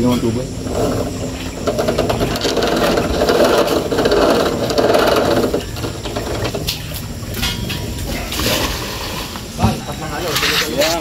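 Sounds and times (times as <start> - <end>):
machine rattling: 0.0 - 9.2.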